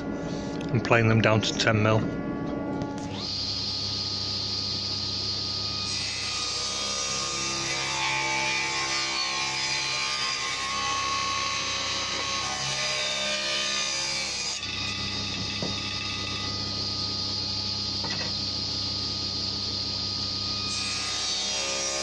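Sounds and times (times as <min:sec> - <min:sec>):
motor hum: 0:00.0 - 0:09.7, 0:10.5 - 0:22.0
table saw cutting wood: 0:03.0 - 0:19.6, 0:20.3 - 0:22.0.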